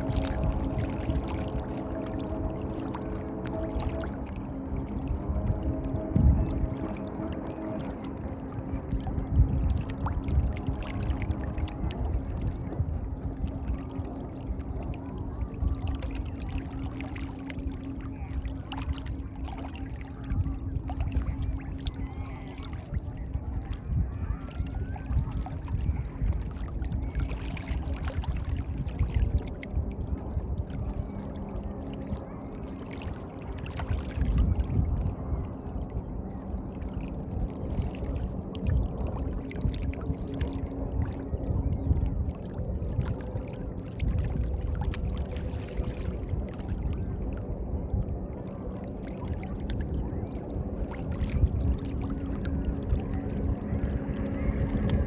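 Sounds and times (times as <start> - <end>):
low rumble: 0.0 - 55.0
water splashing and lapping: 0.0 - 55.0.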